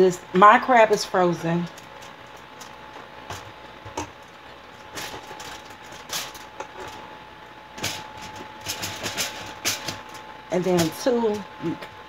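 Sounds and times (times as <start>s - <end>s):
faint steady hum: 0.0s - 12.0s
handling clicks and rustles: 1.4s - 12.0s.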